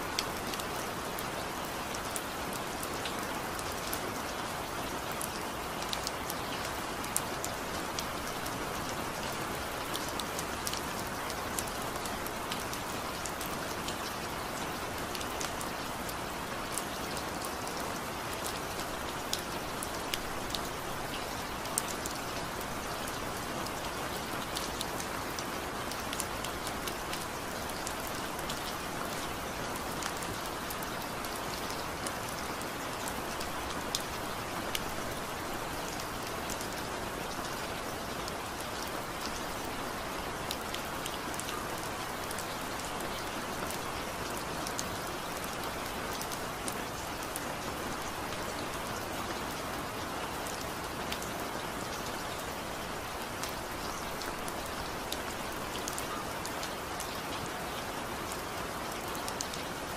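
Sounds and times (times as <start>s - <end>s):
raindrops ticking on a surface: 0.0s - 59.9s
steady rain falling: 0.0s - 59.9s.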